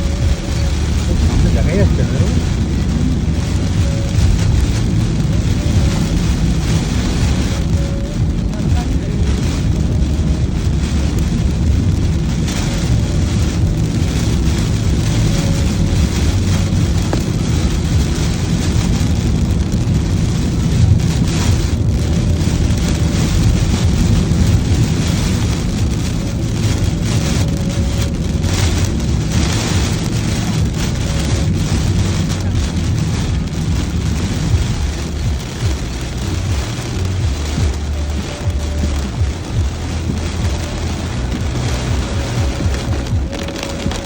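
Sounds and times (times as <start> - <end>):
rain falling on a car: 0.0 - 44.0
road and engine rumble: 0.0 - 44.0.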